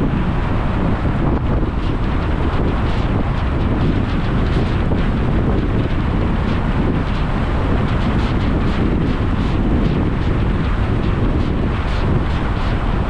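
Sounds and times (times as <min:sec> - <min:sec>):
road noise from vehicle at speed: 0:00.0 - 0:13.0
wind rushing over microphone: 0:00.0 - 0:13.0.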